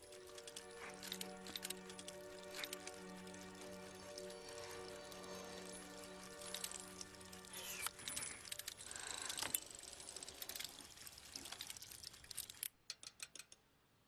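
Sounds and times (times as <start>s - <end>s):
clockwork gears whirring and clicking: 0.0s - 12.7s.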